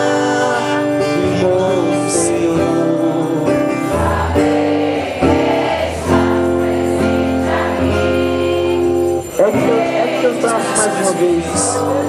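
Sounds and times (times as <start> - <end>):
musical accompaniment: 0.0 - 12.0
voices singing a hymn: 0.0 - 12.0.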